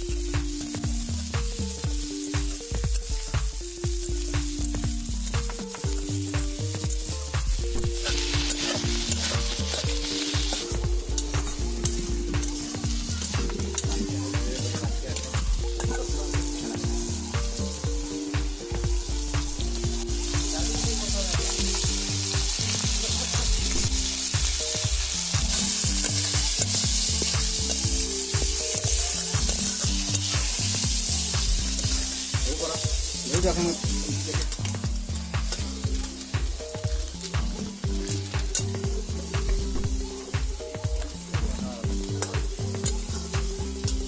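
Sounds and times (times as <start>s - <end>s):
fish sizzling in oil: 0.0s - 44.0s.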